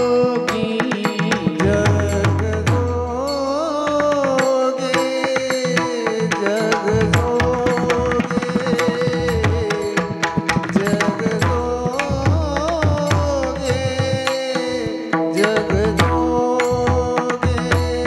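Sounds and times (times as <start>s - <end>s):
devotional song melody: 0.0s - 18.0s
sharp percussive strikes: 0.0s - 18.0s.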